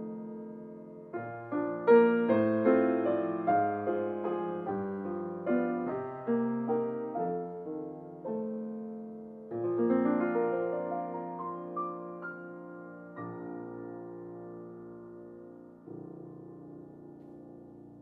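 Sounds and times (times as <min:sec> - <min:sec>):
grand piano waltz: 0:00.0 - 0:18.0.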